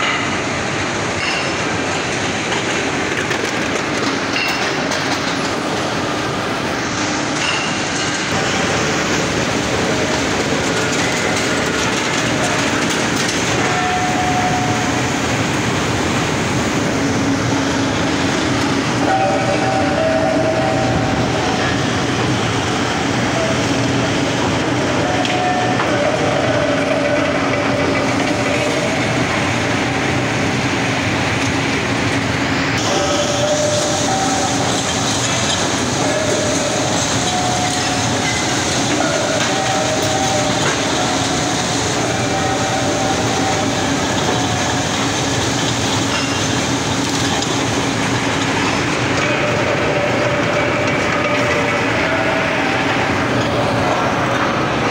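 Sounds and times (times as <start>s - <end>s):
rolling mill industrial din: 0.0s - 54.9s.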